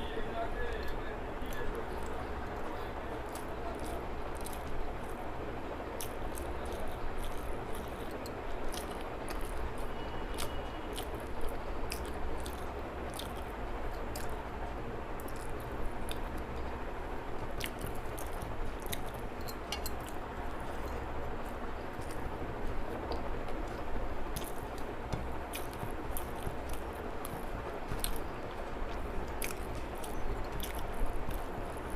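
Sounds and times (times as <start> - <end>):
wet chewing and eating: 0.7 - 31.9.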